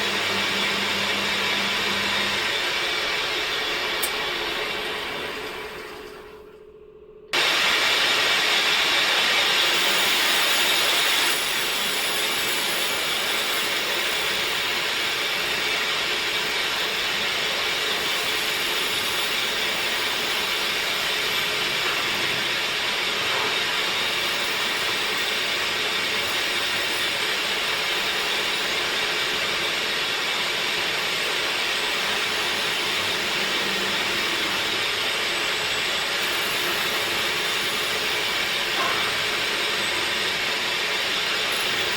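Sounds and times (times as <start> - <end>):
woodworking machine hissing: 0.0 - 5.9, 7.4 - 41.9.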